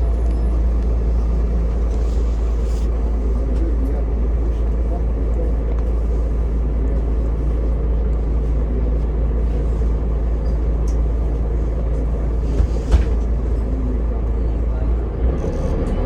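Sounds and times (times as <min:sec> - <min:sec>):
vehicle rumble from inside: 0:00.0 - 0:16.0.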